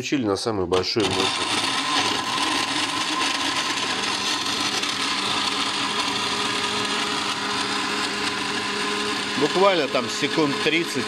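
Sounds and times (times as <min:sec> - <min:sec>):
blender running: 0:00.7 - 0:11.0.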